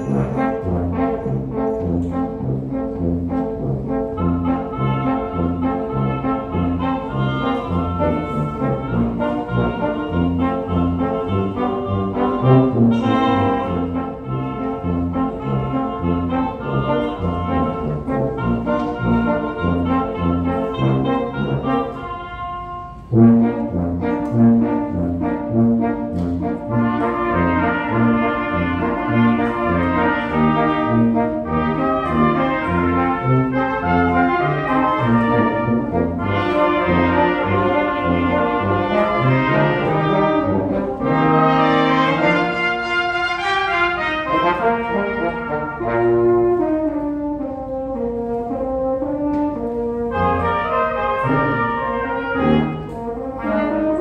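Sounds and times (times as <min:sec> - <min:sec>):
brass quintet playing: 0:00.0 - 0:54.0.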